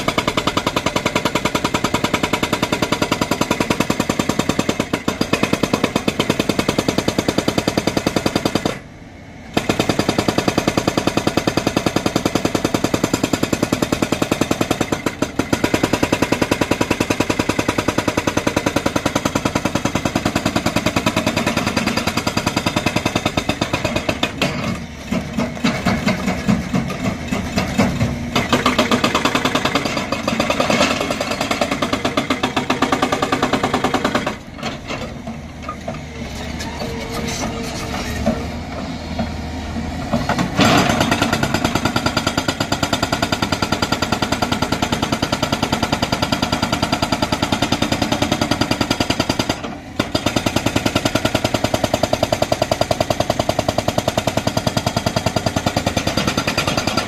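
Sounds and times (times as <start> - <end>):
hydraulic rock breaker hammering: 0.0 - 38.5, 40.0 - 57.0.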